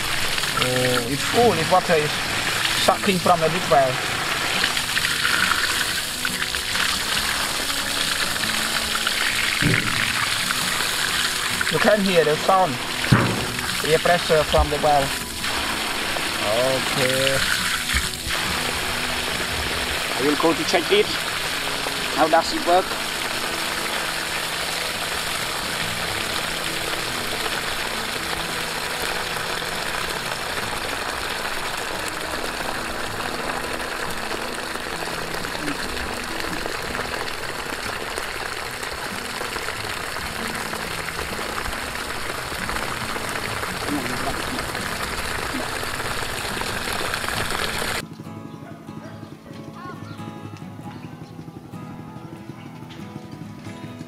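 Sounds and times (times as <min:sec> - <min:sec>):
water gushing from pipe: 0:00.0 - 0:48.0
water splashing on ground: 0:00.0 - 0:48.0
background music: 0:00.0 - 0:54.0.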